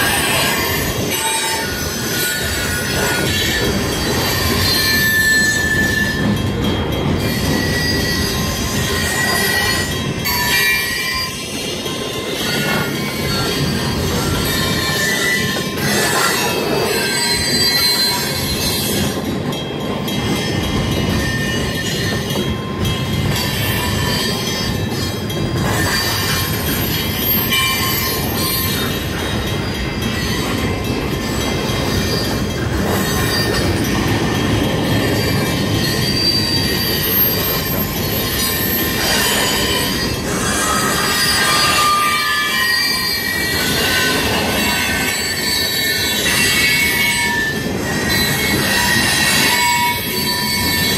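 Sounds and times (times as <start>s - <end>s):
freight train rumbling past: 0.0s - 50.9s
train wheels squealing: 0.0s - 50.9s.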